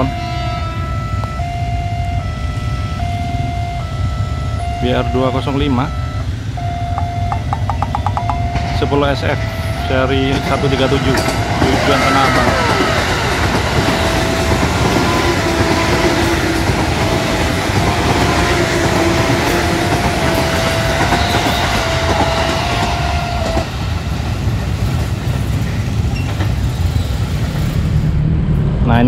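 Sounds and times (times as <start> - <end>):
repeated steady tone: 0.0 - 24.0
electric train passing: 0.0 - 29.0
train wheels on rails: 5.0 - 28.8.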